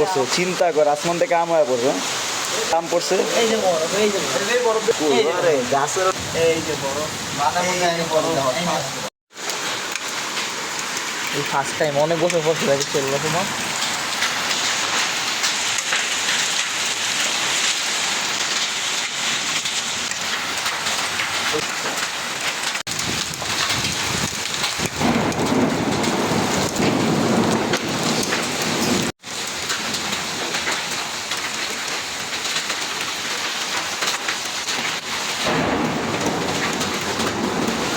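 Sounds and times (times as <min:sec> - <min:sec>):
heavy rain and hail striking: 0:00.0 - 0:37.9.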